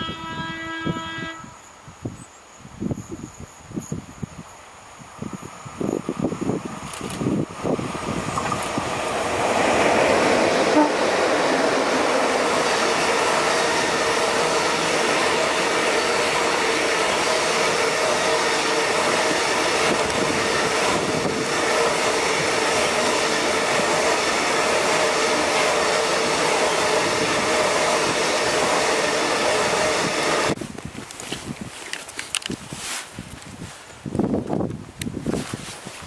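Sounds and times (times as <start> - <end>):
freight train wheels on rail: 3.0 - 35.8.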